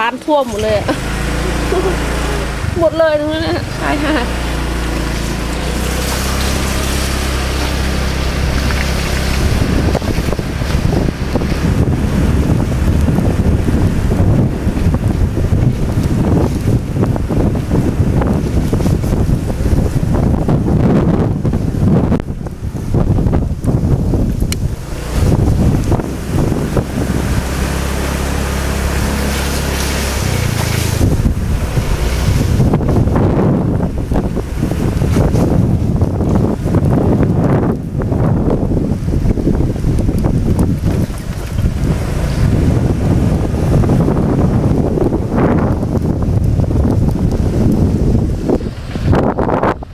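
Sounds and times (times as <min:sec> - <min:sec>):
rushing floodwater: 0:00.0 - 0:49.9
vehicle engine humming: 0:00.0 - 0:49.9
wind buffeting microphone: 0:00.0 - 0:49.9.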